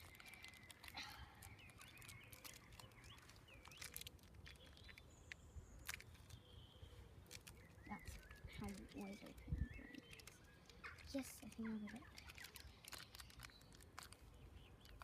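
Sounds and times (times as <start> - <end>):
foil bag crinkling: 0.0 - 6.5, 7.1 - 15.0
bird chirps: 0.0 - 15.0.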